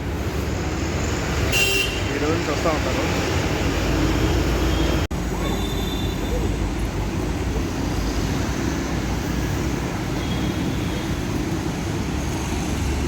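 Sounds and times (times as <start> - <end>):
city road traffic: 0.0 - 13.0.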